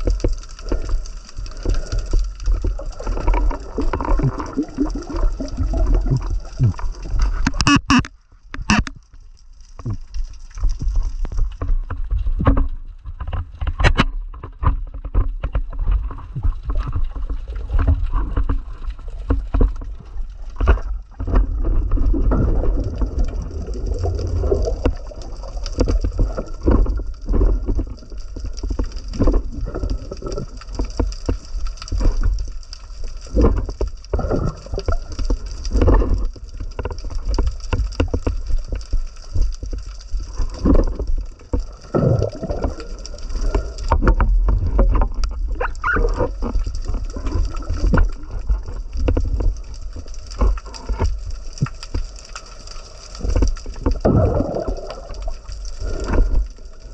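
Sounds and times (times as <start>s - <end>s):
muffled underwater rumble: 0.0s - 56.9s.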